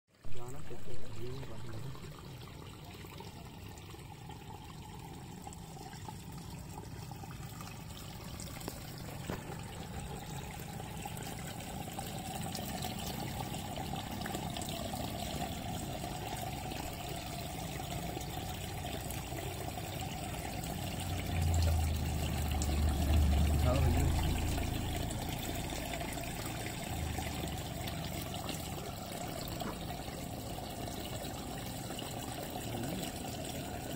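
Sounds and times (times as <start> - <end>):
water trickling and splashing: 0.1 - 33.9.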